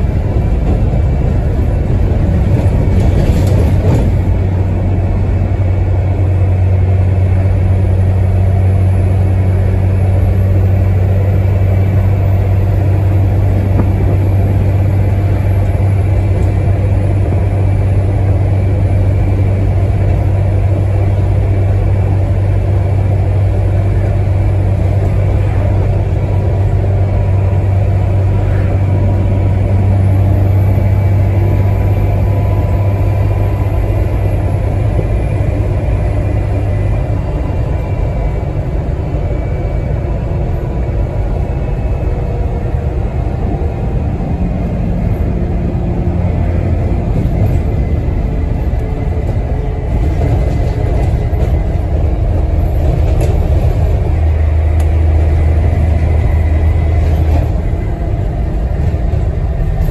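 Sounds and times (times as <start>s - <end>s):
bus engine humming: 0.0s - 59.9s
rattly road and body noise: 0.0s - 59.9s.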